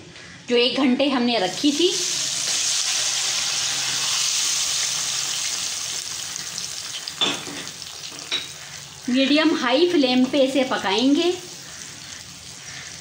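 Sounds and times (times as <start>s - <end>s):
chicken sizzling in hot fat: 1.4s - 13.0s.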